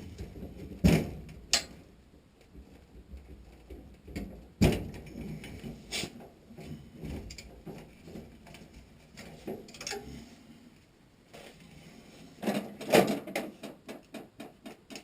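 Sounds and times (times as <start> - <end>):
clicks and knocks of hands working: 0.0 - 1.8, 2.4 - 10.1, 12.4 - 15.0.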